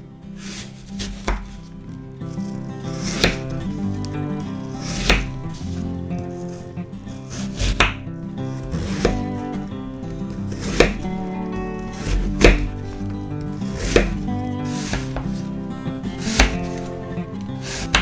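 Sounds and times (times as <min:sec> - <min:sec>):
background music: 0:00.0 - 0:18.0
knife chopping on cutting board: 0:00.4 - 0:01.6, 0:02.4 - 0:15.6, 0:16.2 - 0:18.0.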